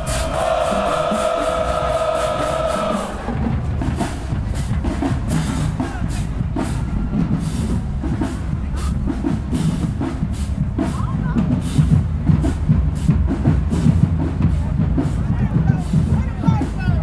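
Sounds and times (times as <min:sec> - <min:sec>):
bass and snare drums beat: 0:00.0 - 0:17.0
marching band horns chord: 0:00.0 - 0:17.0.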